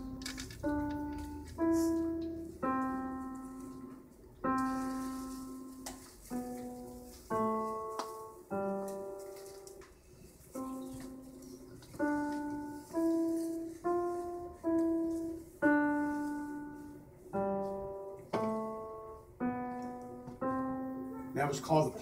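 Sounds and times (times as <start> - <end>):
keyboard piano melody: 0.0 - 22.0.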